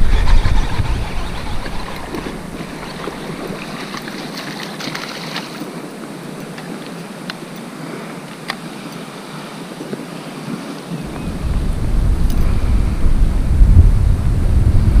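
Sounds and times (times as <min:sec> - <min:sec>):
wind over open water: 0:00.0 - 0:15.0.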